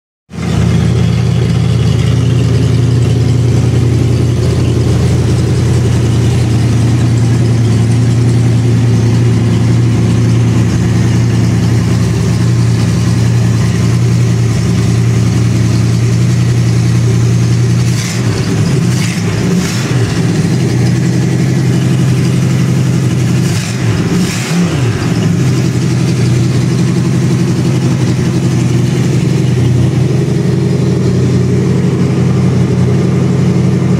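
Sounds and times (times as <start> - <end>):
engine running steadily: 0.4 - 33.9.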